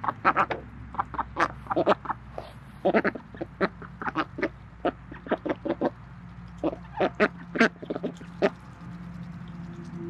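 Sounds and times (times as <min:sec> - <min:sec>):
ducks quacking and chattering: 0:00.0 - 0:08.8.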